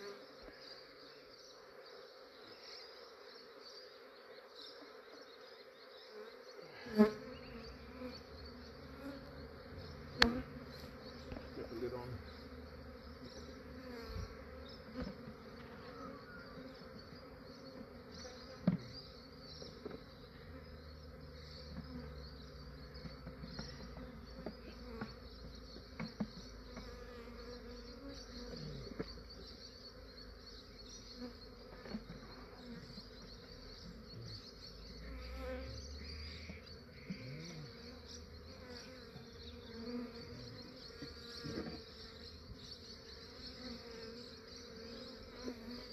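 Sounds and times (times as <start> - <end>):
bees buzzing: 0.0 - 45.9.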